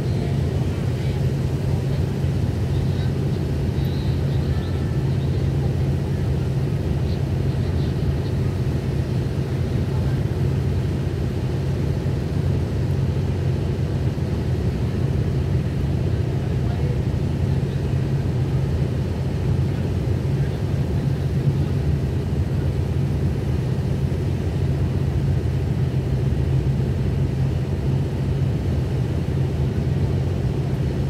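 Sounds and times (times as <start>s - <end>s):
diesel train idling: 0.0s - 31.0s.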